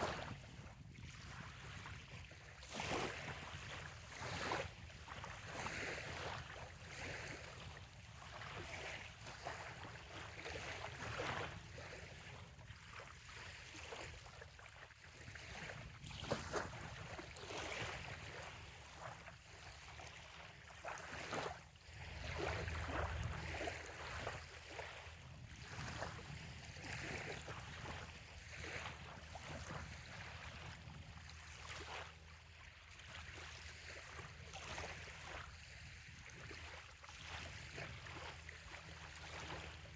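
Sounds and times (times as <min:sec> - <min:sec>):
waves lapping on sand: 0:00.0 - 0:39.9.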